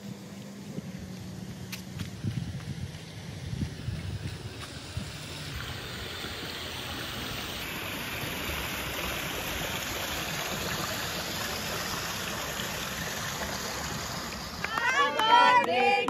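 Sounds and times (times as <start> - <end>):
running water rushing: 0.0 - 15.1.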